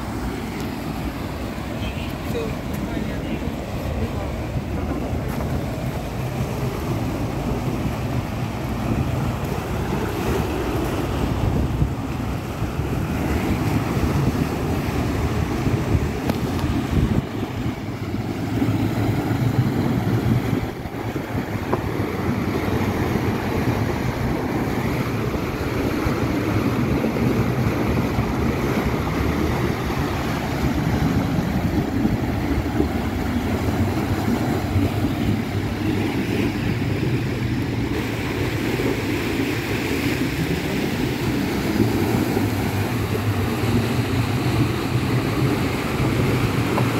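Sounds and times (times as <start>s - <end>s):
cars driving through water: 0.0s - 46.9s
water gushing: 0.0s - 46.9s
wind on microphone: 2.1s - 46.9s.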